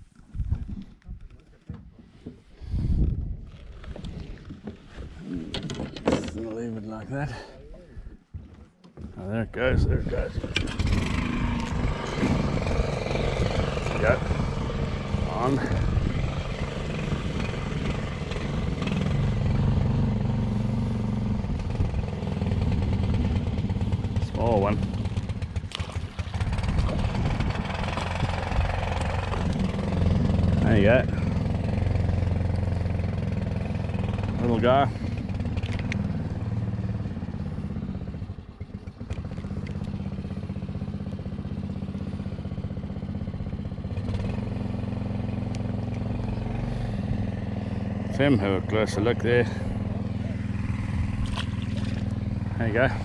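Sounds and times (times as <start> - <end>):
engine running steadily: 0.4 - 53.0.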